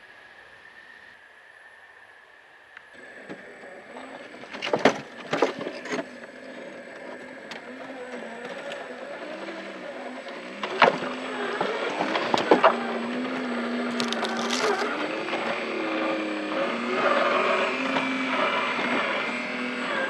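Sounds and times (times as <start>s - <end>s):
small motor whining: 2.8s - 20.0s.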